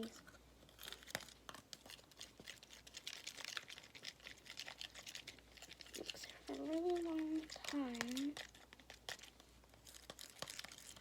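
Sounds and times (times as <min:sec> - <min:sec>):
slime stirred in a bowl: 0:00.0 - 0:11.0.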